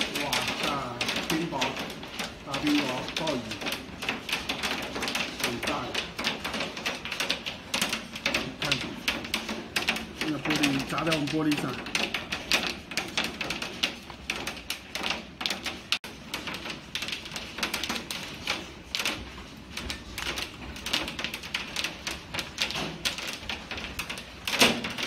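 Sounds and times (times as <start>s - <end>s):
hail clattering on window glass: 0.0s - 25.0s.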